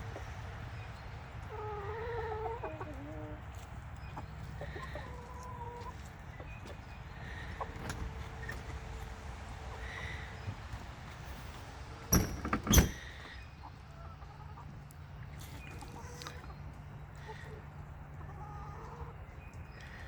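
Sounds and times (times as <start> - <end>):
chickens clucking: 0.0 - 12.4, 13.1 - 20.0.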